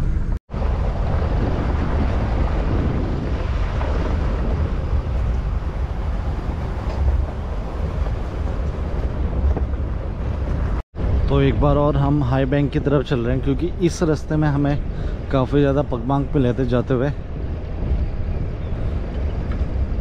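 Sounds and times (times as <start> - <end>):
vehicle engine and tyre rumble: 0.0 - 20.0
wind buffeting microphone: 0.0 - 20.0.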